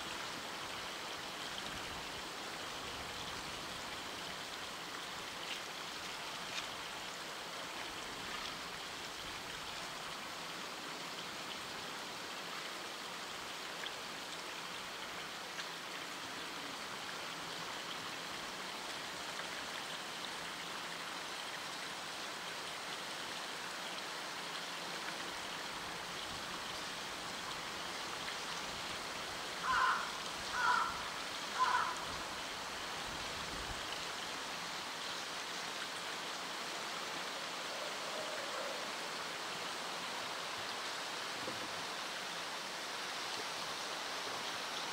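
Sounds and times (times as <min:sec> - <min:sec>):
water flowing: 0:00.0 - 0:44.9.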